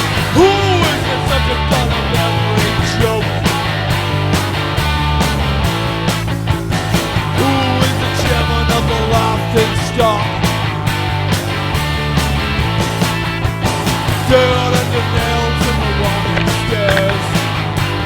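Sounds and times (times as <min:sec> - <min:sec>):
grunge rock music: 0:00.0 - 0:18.0.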